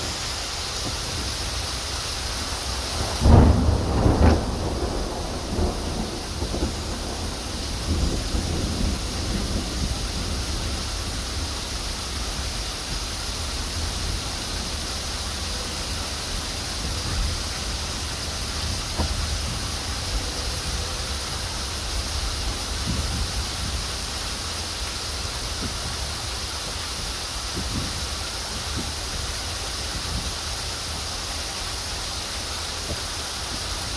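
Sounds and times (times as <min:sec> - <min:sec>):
steady rain hiss: 0:00.0 - 0:33.9
low thunder rumble: 0:02.2 - 0:30.4.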